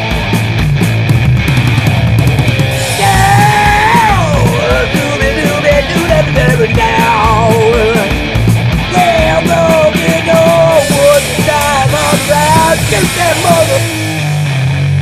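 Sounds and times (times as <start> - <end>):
loud rock music: 0.0 - 15.0
high sliding melodic line: 2.4 - 14.6.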